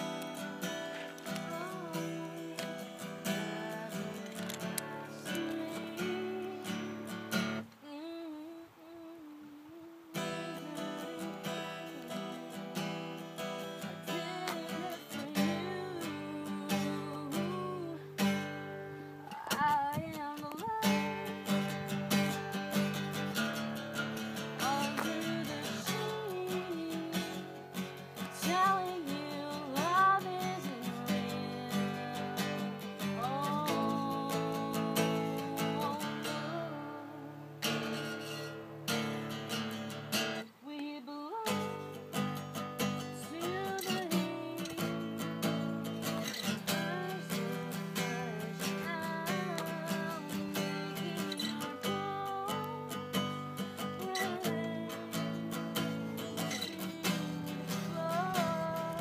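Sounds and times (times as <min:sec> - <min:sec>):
person singing: 0:00.0 - 0:39.4, 0:40.2 - 0:59.0
acoustic guitar: 0:00.0 - 0:59.0.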